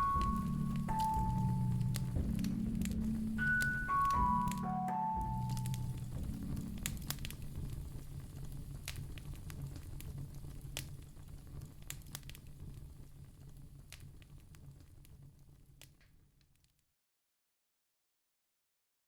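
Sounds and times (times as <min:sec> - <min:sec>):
wood fire crackling: 0:00.0 - 0:16.8.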